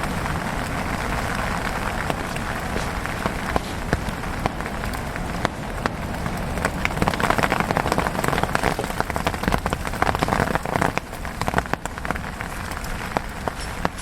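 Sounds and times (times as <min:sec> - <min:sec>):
rain falling: 0:00.0 - 0:14.0
raindrops ticking: 0:00.0 - 0:14.0.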